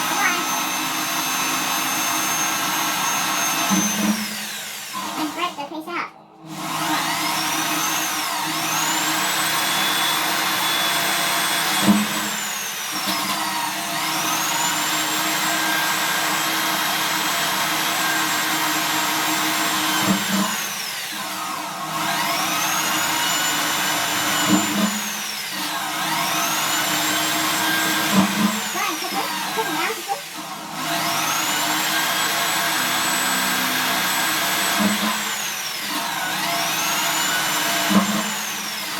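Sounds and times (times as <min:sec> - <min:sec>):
electric drill drilling metal: 0:00.0 - 0:05.6, 0:06.4 - 0:38.9.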